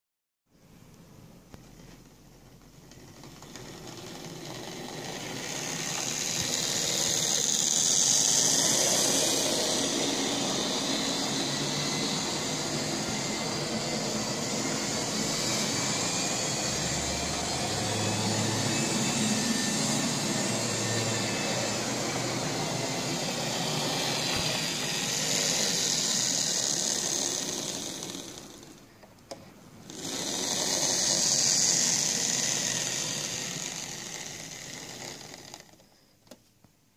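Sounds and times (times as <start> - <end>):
model train motor whirring: 2.9 - 28.9, 29.8 - 36.0.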